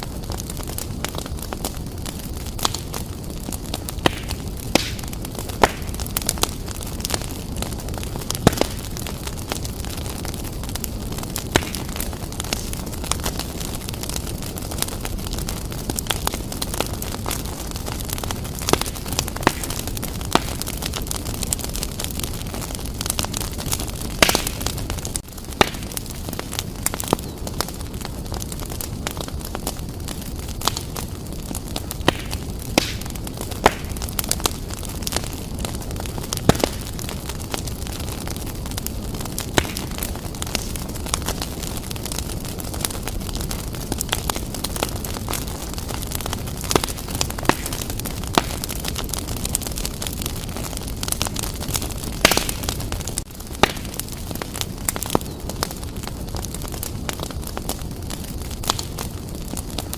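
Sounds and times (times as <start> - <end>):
fire crackling and popping: 0.0 - 59.9
fire rumbling: 0.0 - 59.9.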